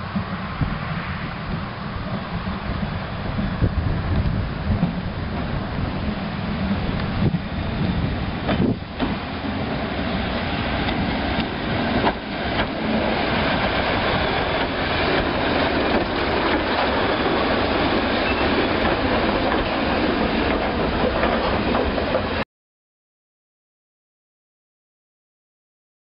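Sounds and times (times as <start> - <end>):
diesel train passing: 0.0 - 22.4
train knocks: 0.0 - 22.4
wheel noise on rails: 0.0 - 22.4.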